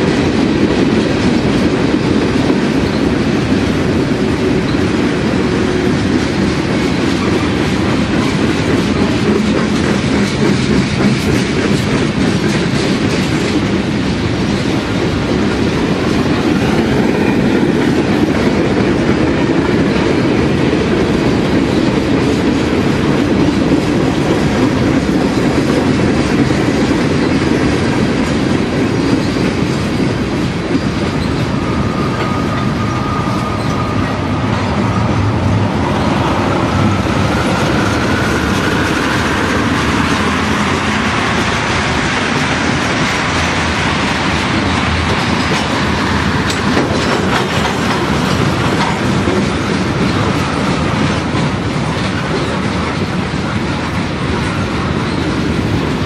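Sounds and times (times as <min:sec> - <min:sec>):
clickety-clack over rail joints: 0:00.0 - 0:56.0
steel wheels rumbling on rail: 0:00.0 - 0:56.0.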